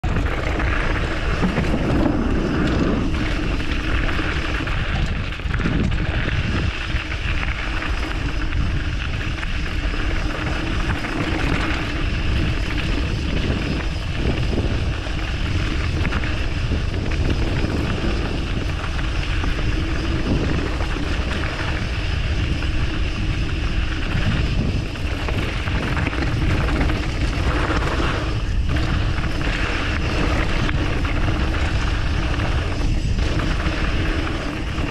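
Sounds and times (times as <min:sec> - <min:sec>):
bike tyres rolling and rattling: 0:00.0 - 0:34.9
wind on camera microphone: 0:00.0 - 0:34.9.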